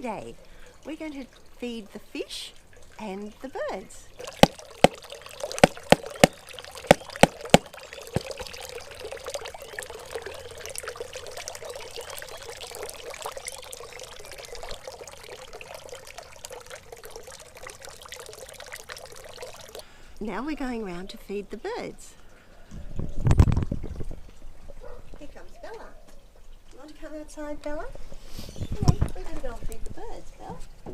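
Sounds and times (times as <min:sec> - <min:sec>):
water pouring and trickling: 0:00.0 - 0:30.9.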